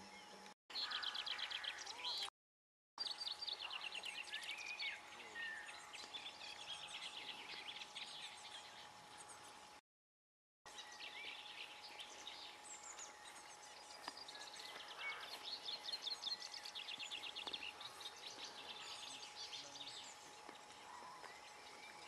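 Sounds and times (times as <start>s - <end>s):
birds chattering: 0.0s - 2.3s, 3.0s - 9.8s, 10.7s - 22.0s
faint steady whine: 3.0s - 9.8s, 10.7s - 22.0s.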